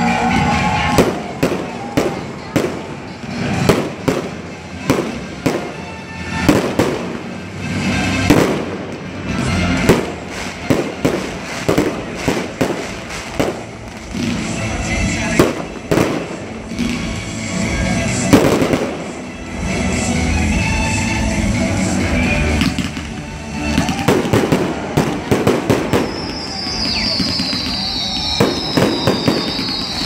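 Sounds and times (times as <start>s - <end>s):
fireworks crackle: 0.0s - 30.0s
music: 0.0s - 30.0s
fireworks bangs: 0.1s - 20.0s, 21.5s - 30.0s.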